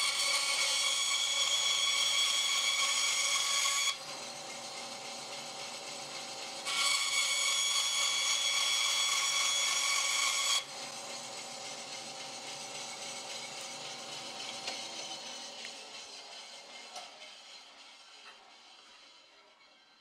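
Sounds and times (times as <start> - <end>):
bandsaw running: 0.0 - 20.0
high-pitched whine of blade cutting: 0.0 - 20.0.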